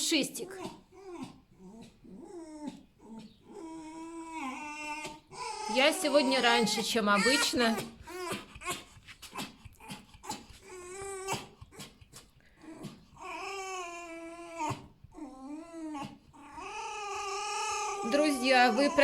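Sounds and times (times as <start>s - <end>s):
fox whining: 0.4s - 19.0s.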